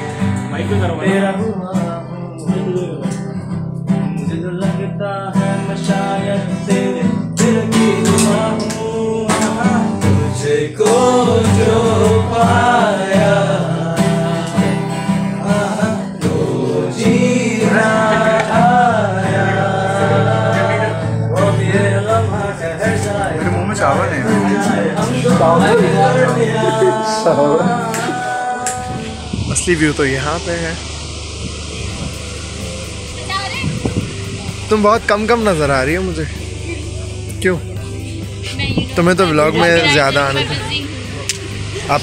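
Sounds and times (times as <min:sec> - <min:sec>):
man singing: 0:00.0 - 0:29.8, 0:37.6 - 0:42.0
acoustic guitar strumming: 0:00.0 - 0:42.0.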